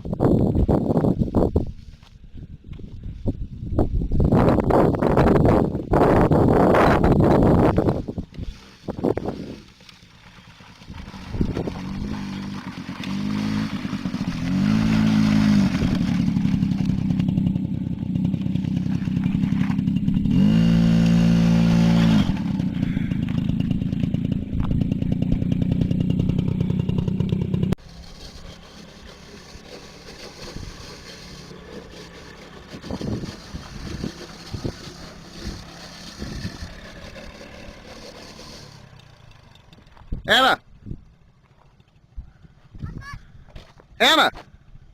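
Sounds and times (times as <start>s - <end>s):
atv engine revving: 4.5s - 42.1s.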